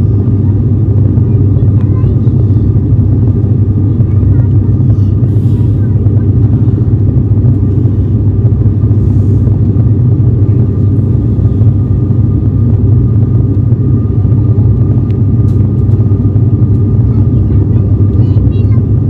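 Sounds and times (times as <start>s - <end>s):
propeller and engine drone: 0.0s - 19.0s.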